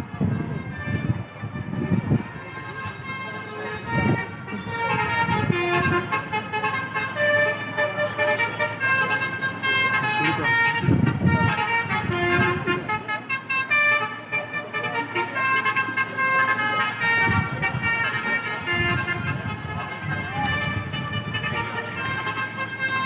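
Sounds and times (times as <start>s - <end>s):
bus horns playing a tune: 0.0s - 23.0s.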